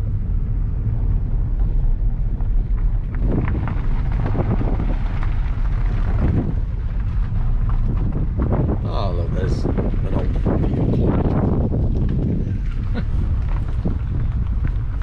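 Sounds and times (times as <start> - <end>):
car interior tyre rumble: 0.0 - 15.0.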